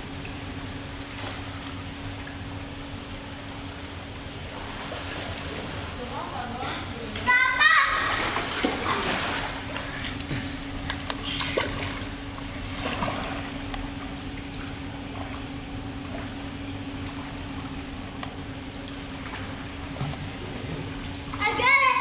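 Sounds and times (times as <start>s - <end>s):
water lapping: 0.0s - 22.0s.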